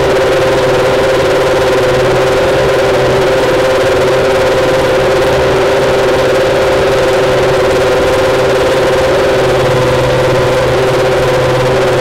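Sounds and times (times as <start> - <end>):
racing engine idling: 0.0 - 12.0.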